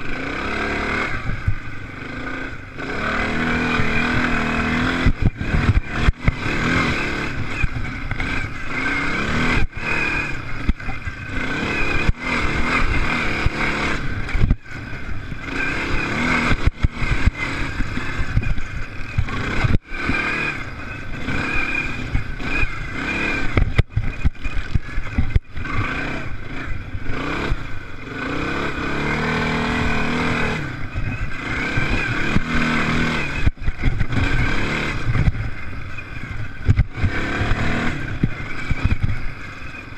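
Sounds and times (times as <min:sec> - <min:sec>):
motocross bikes revving and passing: 0:00.0 - 0:39.9.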